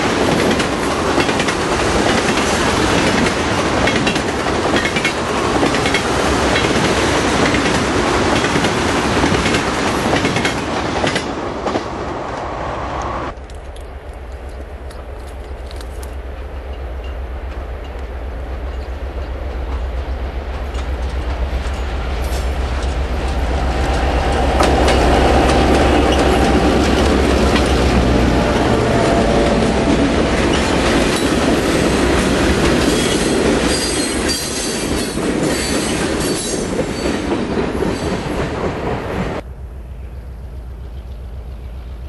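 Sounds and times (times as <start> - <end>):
clattering train wheels: 0.0 - 12.4, 14.4 - 39.4
diesel locomotive engines throbbing: 0.0 - 42.0.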